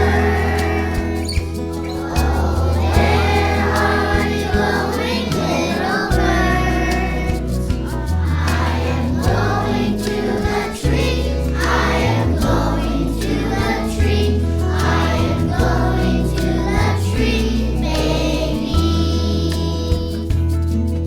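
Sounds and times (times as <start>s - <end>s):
children's choir singing: 0.0s - 20.3s
instrumental accompaniment: 0.0s - 21.0s.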